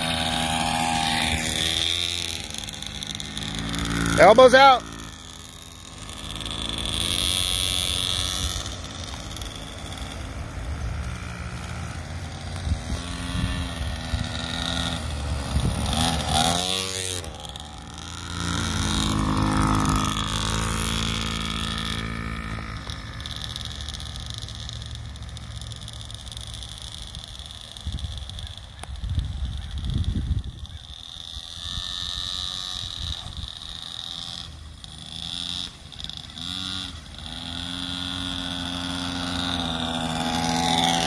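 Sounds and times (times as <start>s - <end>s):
small dirt bike engines revving: 0.0s - 41.0s.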